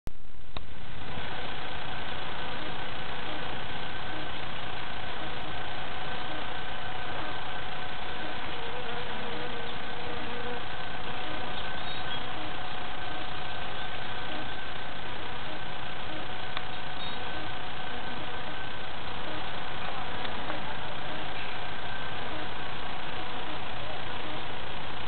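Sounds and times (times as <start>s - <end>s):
mechanical hum with held tones: 0.1s - 25.0s.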